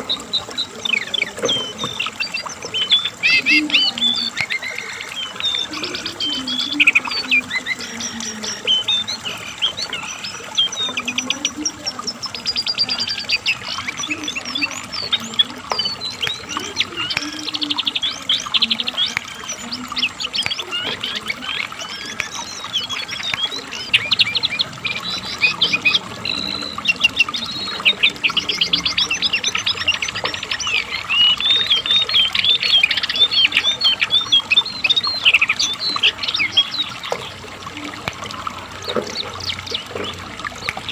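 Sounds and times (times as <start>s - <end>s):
bird singing trills and chirps: 0.0s - 40.9s.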